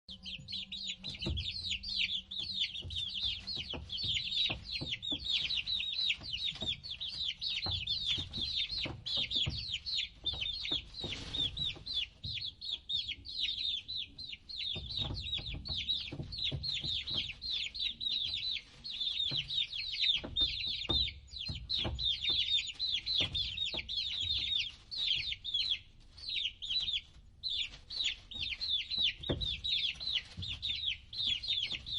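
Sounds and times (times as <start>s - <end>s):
baby chicks peeping: 0.1s - 31.9s.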